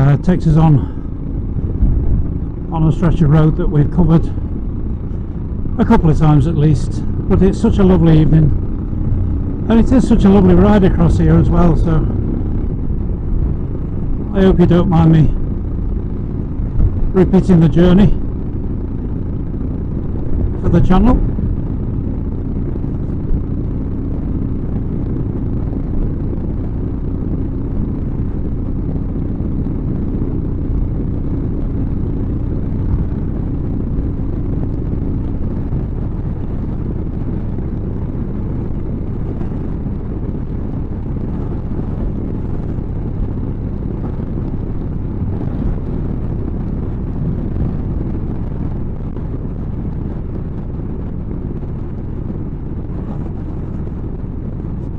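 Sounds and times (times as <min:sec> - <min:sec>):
motorcycle engine cruising: 0:00.0 - 0:54.9
wind rushing over microphone: 0:00.0 - 0:54.9.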